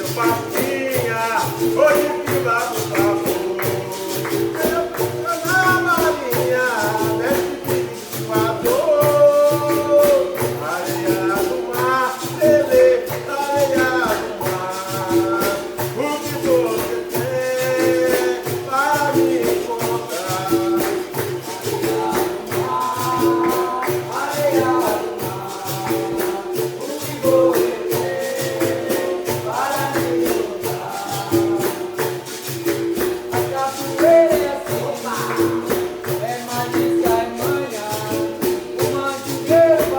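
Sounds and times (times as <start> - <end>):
berimbau and pandeiro rhythm: 0.0 - 39.9
call-and-response singing: 0.0 - 39.9.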